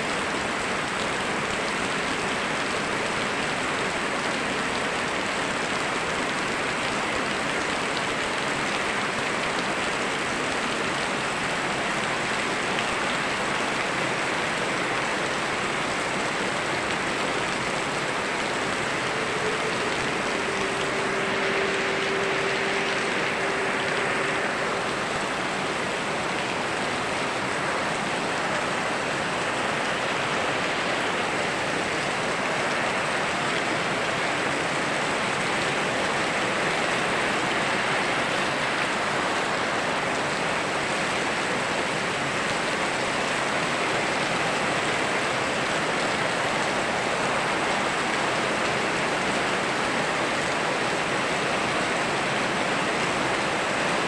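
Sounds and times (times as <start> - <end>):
flowing stream: 0.0 - 54.0
steady rain falling: 0.0 - 54.0.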